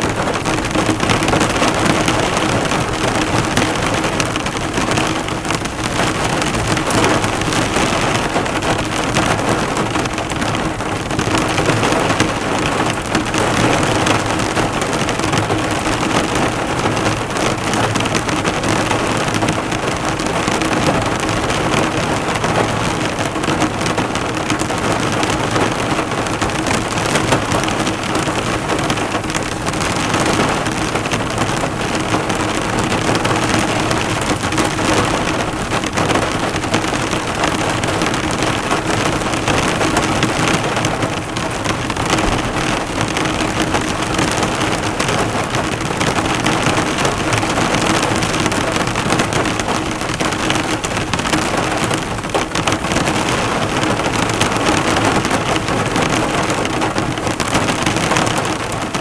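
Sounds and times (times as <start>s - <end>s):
heavy rain drumming on a car: 0.0s - 59.0s.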